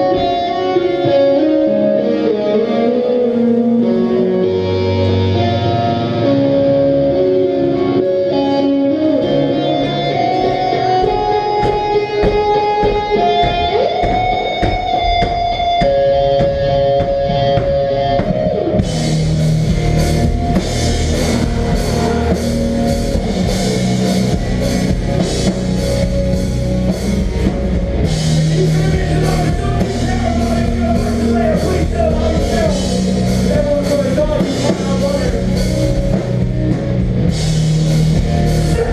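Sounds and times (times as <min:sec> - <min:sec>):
electric guitar lines: 0:00.0 - 0:38.9
rock band playing: 0:00.0 - 0:38.9.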